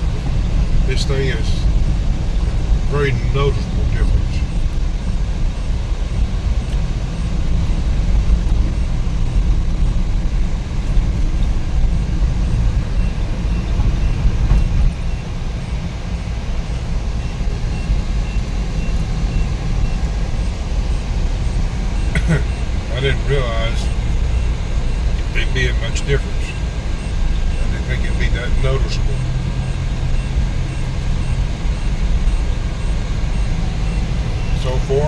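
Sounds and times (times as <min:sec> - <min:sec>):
in-cabin engine and road rumble: 0:00.0 - 0:35.0.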